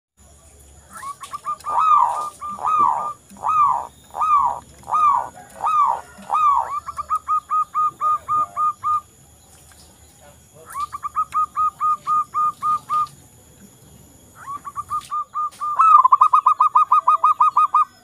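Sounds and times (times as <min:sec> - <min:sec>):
dove cooing: 0:00.9 - 0:09.2, 0:10.6 - 0:18.0.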